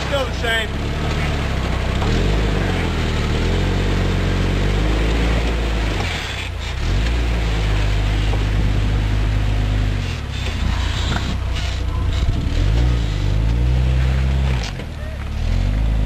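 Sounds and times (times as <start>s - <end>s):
engine pulling under load: 0.0s - 16.0s.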